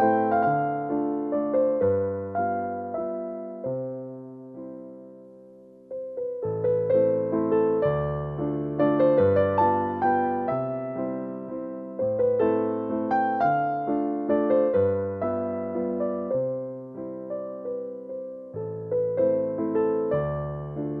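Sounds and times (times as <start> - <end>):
electric piano melody: 0.0 - 21.0.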